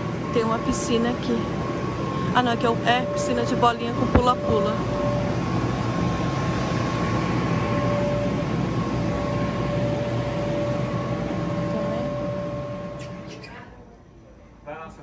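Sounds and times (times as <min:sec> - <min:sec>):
air blowers whirring: 0:00.0 - 0:13.3
faint whine: 0:00.3 - 0:13.0.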